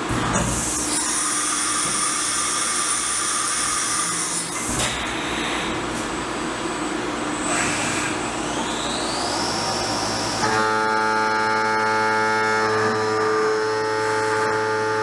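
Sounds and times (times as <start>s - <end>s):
milling machine spindle whine: 0.6s - 5.8s, 6.9s - 15.0s.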